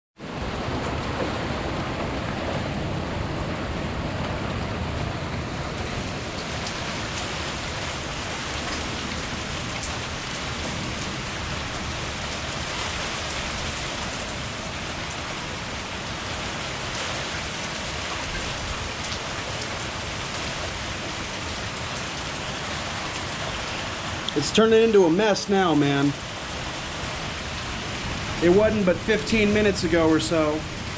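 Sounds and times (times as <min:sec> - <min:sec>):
heavy rain pouring: 0:00.2 - 0:30.9.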